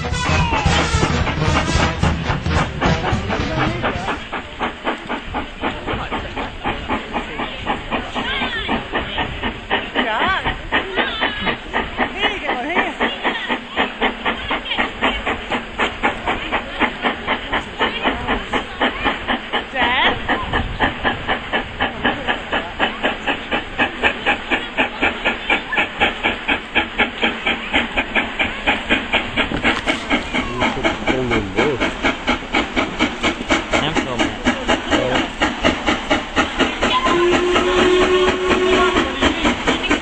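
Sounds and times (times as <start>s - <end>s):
hiss of steam: 0.0s - 40.0s
steam locomotive chuffing: 0.0s - 40.0s.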